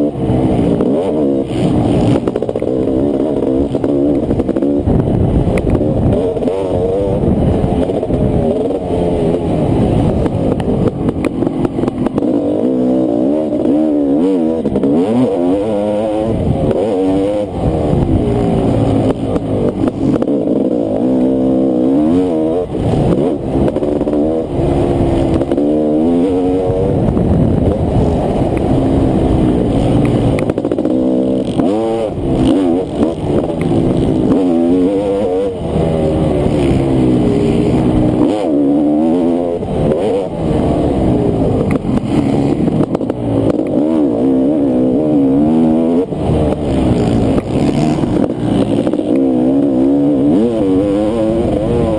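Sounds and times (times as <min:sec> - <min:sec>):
motocross engine racing: 0:00.0 - 0:51.9.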